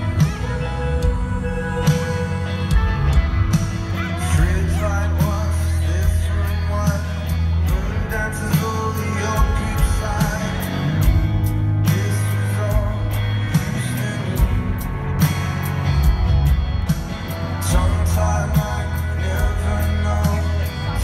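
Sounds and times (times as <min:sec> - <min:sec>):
man singing: 0:00.0 - 0:15.4, 0:17.3 - 0:21.0
bass notes: 0:00.0 - 0:21.0
drums: 0:00.0 - 0:21.0
electric guitar: 0:00.0 - 0:21.0.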